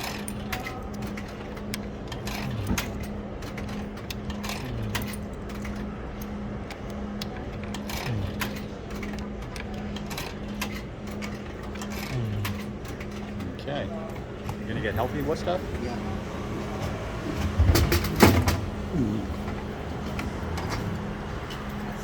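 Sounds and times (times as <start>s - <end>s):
coins clinking in vending machine: 0.0s - 22.0s
steady low hum: 0.0s - 22.0s.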